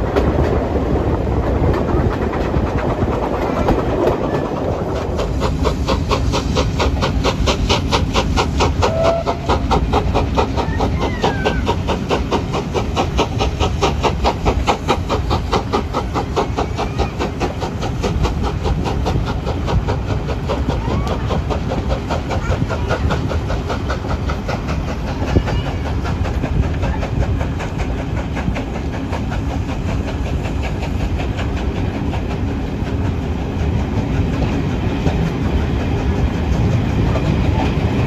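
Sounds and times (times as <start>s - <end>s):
coaches rumbling on rails: 0.0s - 38.0s
steam locomotive exhaust beats: 0.0s - 38.0s.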